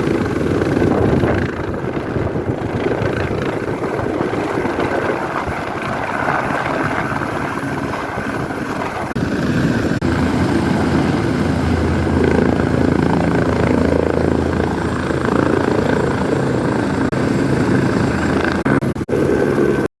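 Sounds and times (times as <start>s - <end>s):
helicopter rotor and engine drone: 0.0s - 19.9s.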